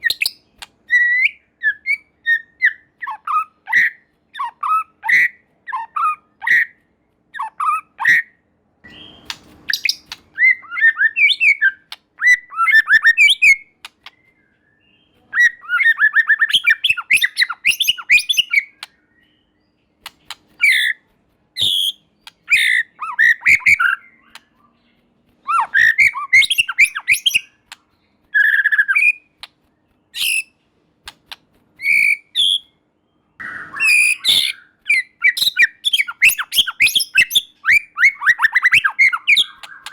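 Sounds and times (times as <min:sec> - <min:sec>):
bird singing whistles and chatter: 0:00.0 - 0:06.8, 0:08.9 - 0:19.6, 0:21.6 - 0:24.8, 0:25.4 - 0:27.7, 0:28.3 - 0:29.3, 0:30.1 - 0:30.6, 0:31.8 - 0:32.8, 0:33.4 - 0:39.9.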